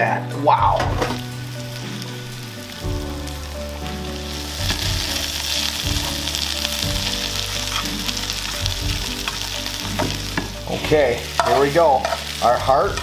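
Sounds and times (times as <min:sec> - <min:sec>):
background music: 0:00.0 - 0:13.0
meat sizzling in oil: 0:00.7 - 0:13.0.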